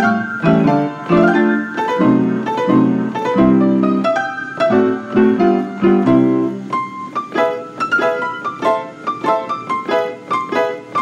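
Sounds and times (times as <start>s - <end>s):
player piano playing: 0.0s - 11.0s.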